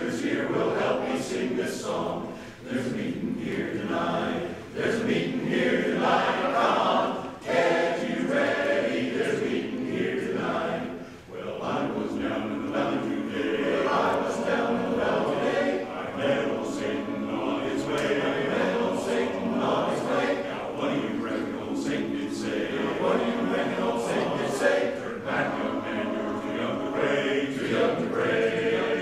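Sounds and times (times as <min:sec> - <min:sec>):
men's chorus singing a cappella: 0:00.0 - 0:29.0.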